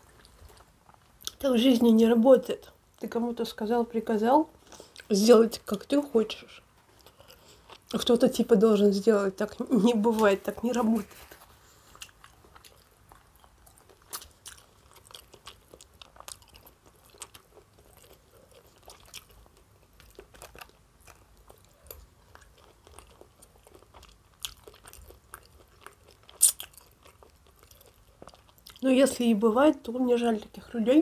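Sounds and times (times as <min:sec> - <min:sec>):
chewing food with crunches: 0:00.0 - 0:02.0, 0:04.6 - 0:08.6, 0:09.4 - 0:29.3.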